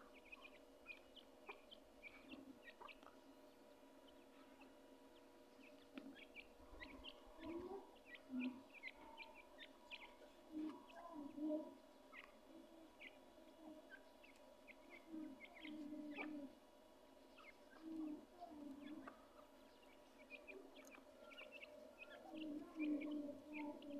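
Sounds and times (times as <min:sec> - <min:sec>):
chicks peeping: 0:00.0 - 0:23.9
faint steady hum: 0:00.0 - 0:23.9.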